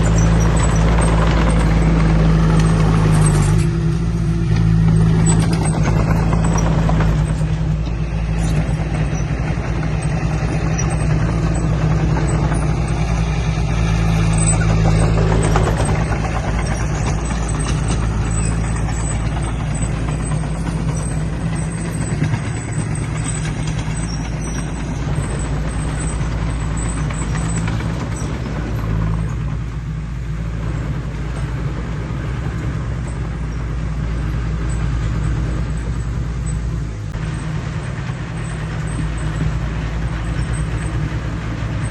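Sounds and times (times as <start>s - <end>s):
heavy machine diesel engine drone: 0.0s - 41.9s.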